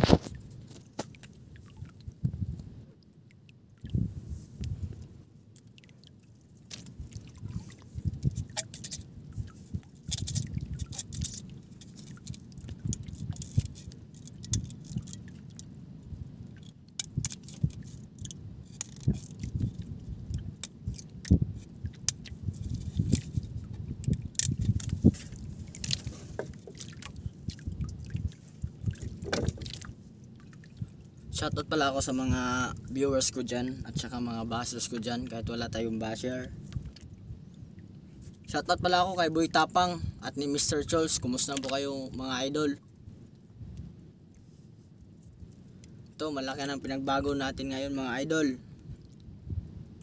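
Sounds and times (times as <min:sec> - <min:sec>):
low uneven rumble: 0:00.0 - 0:50.0.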